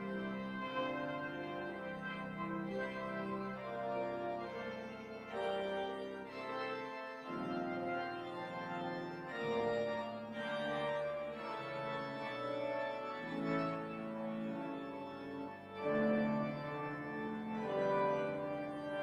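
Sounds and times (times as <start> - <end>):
church organ playing chords: 0.0 - 19.0.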